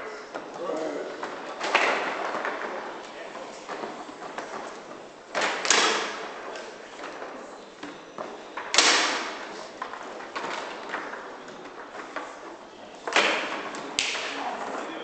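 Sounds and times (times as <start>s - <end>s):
foosball ball and figures clacking: 0.2s - 15.0s.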